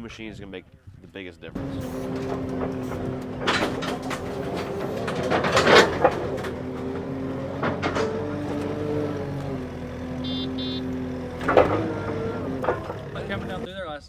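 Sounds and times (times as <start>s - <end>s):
diesel engine running: 1.6s - 13.7s
metal clanking and rattling: 1.6s - 13.7s.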